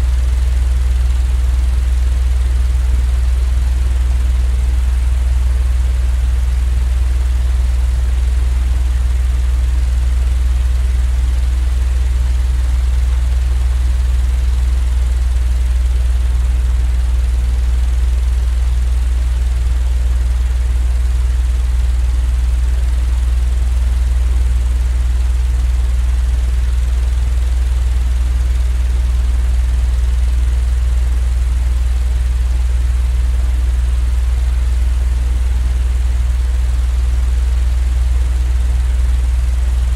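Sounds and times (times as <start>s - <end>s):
low mechanical drone: 0.0s - 5.6s, 11.0s - 39.9s.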